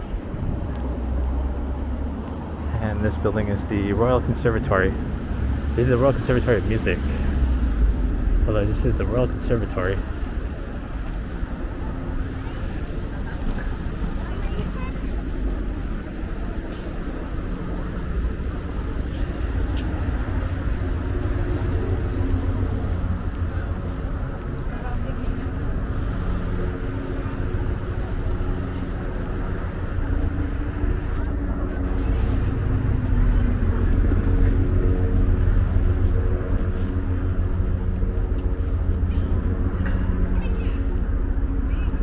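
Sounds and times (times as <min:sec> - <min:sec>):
cars driving past: 0:00.0 - 0:42.0
vehicle engine drone: 0:00.0 - 0:42.0.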